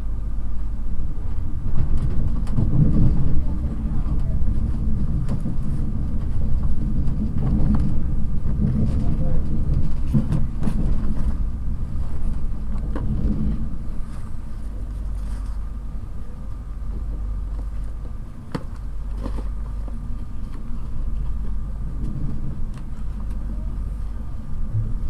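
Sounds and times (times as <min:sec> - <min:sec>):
train coach rumbling on track: 0:00.0 - 0:25.0.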